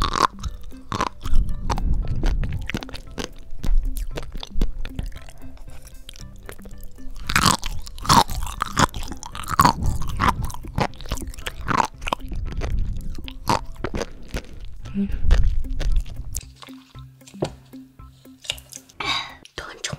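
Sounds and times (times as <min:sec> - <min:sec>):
chewing seaweed with crunchy pops: 0:00.0 - 0:17.4, 0:18.2 - 0:19.0.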